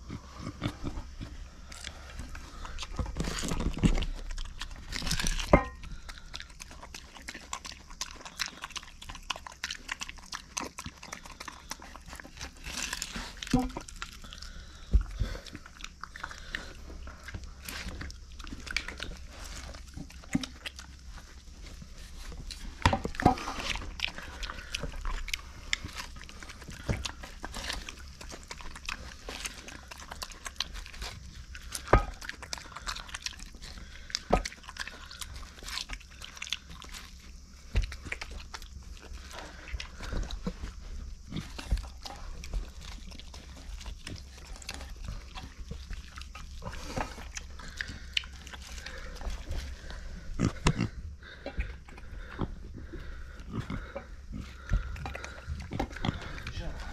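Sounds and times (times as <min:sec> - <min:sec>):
pig chewing and crunching: 0:00.0 - 0:56.9.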